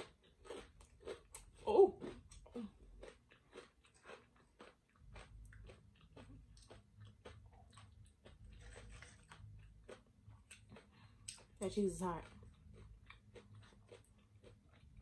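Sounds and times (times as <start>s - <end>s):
chewing food crunches: 0.0s - 15.0s.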